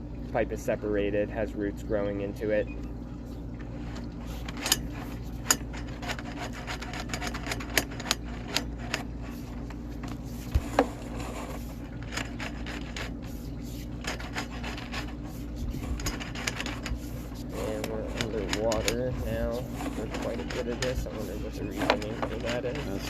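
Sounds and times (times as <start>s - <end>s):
steady low hum: 0.0s - 23.0s
cable scraping in drain: 3.2s - 23.0s.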